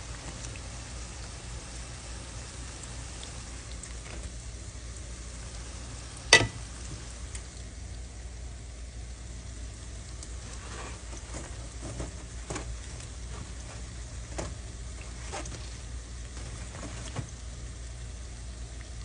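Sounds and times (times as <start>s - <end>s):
food frying in hot oil: 0.0s - 19.0s
low steady hum: 0.0s - 19.0s
oil crackling and popping: 0.0s - 19.0s.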